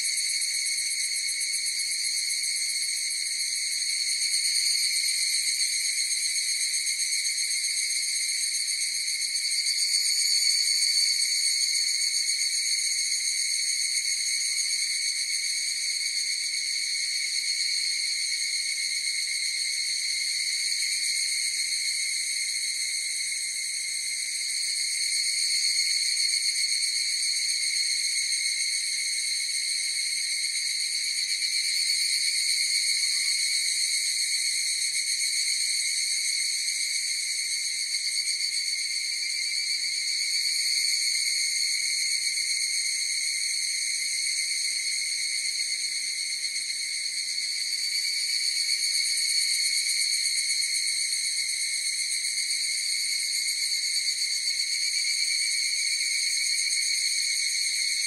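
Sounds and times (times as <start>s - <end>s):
cicadas shrill ringing: 0.0s - 58.0s.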